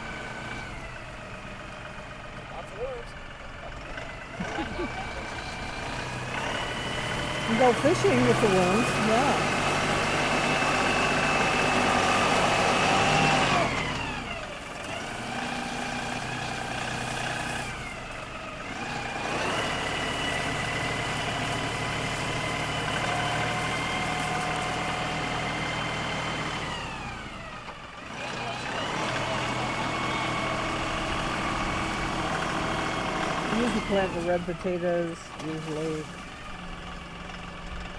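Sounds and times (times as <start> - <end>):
tractor diesel engine working: 0.0 - 37.9.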